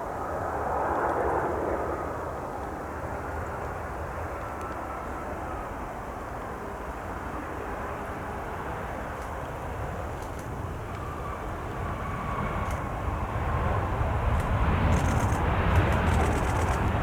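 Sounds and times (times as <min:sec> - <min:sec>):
distant jet engine rumble: 0:00.0 - 0:17.0.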